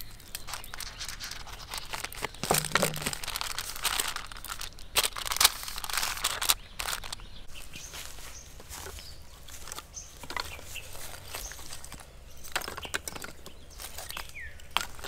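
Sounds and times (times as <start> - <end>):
crinkling handling noise: 0.0 - 15.0.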